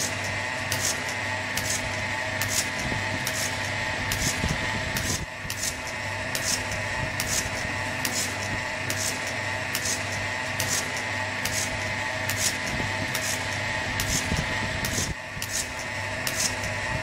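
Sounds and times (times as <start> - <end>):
pulsator hissing rhythmically: 0.0 - 17.0
vacuum pump humming: 0.0 - 17.0.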